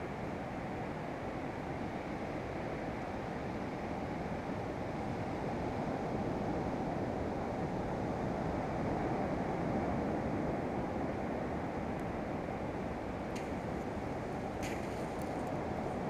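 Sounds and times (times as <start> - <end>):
surf on sandy beach: 0.4 - 16.0.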